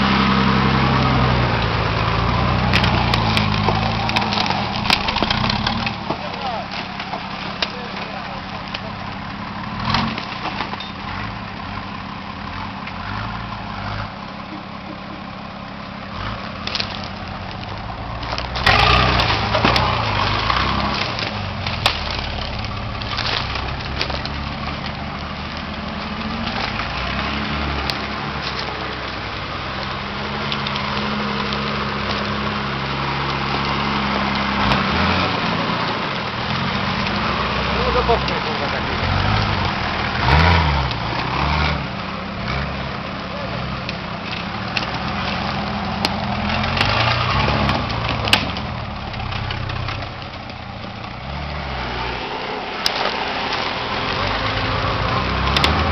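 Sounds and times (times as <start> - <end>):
diesel engine running: 0.0 - 55.9
cracking and crunching on ground: 0.7 - 55.9.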